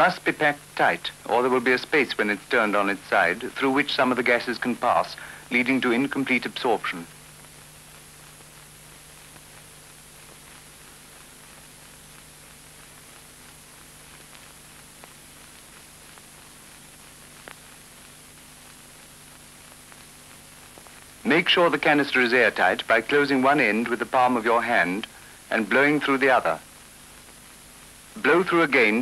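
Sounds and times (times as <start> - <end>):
faint hum: 0.0 - 29.0
film soundtrack hiss: 0.0 - 29.0.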